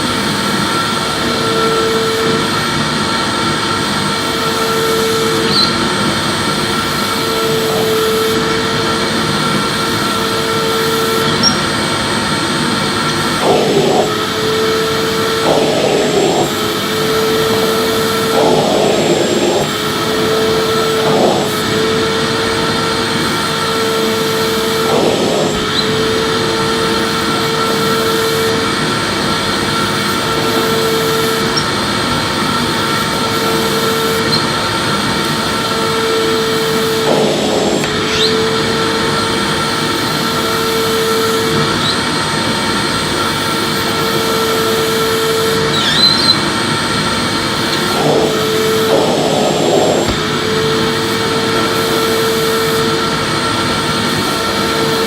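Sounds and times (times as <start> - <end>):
vacuum cleaner running: 0.0 - 55.0
vacuum cleaner scuffing: 3.8 - 39.7, 44.5 - 55.0.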